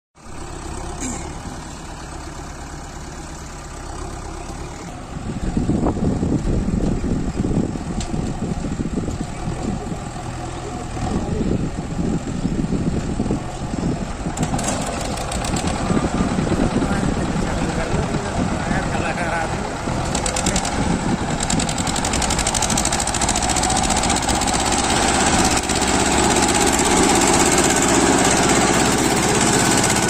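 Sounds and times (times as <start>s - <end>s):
diesel engine idling: 0.2s - 30.0s.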